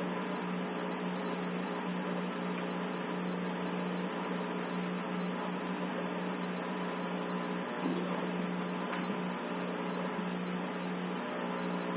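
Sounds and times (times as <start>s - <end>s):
low electrical hum: 0.0s - 11.9s.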